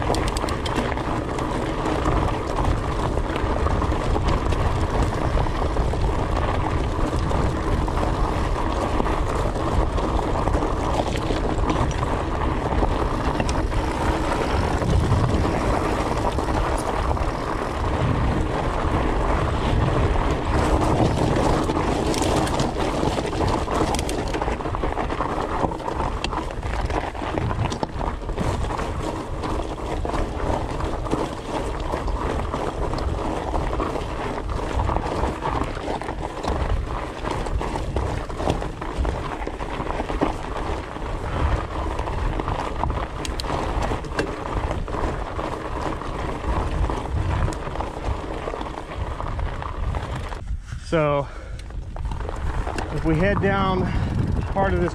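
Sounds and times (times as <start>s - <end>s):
bike clicks and rattles: 0.0s - 54.9s
bike tyres rumbling on gravel: 0.0s - 54.9s
wind buffeting microphone: 0.0s - 54.9s.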